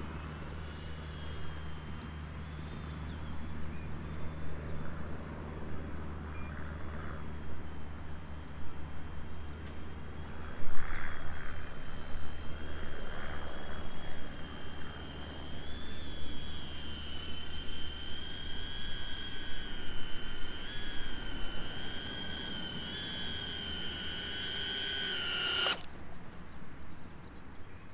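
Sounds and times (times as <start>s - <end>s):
quadcopter whining in flight: 0.0s - 26.0s.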